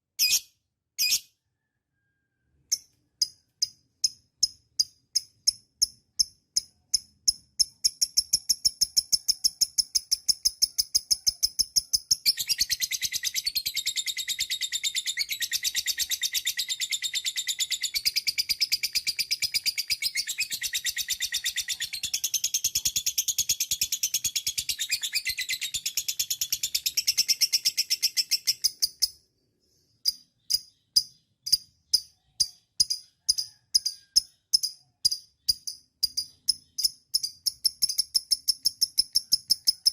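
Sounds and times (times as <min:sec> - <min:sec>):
high bird chirps: 0:00.2 - 0:39.9.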